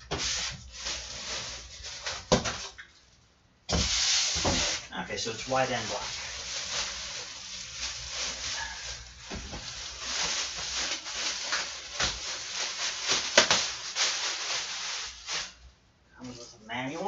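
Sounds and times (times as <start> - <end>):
packaging rustling: 0.2 - 2.8, 4.2 - 15.6.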